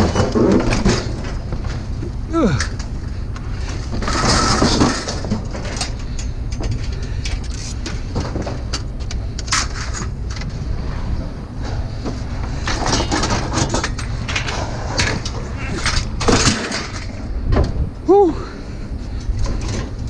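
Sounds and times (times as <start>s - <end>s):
scrap metal clanking: 0.0s - 17.4s
steady low rumble: 0.0s - 20.0s.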